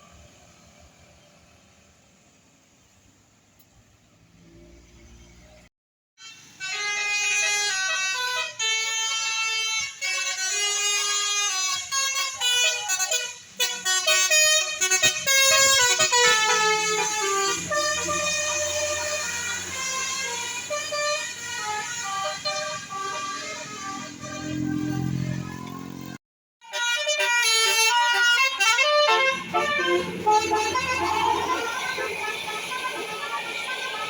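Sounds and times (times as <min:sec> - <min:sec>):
multi-tone bus air horn: 0:06.2 - 0:34.0.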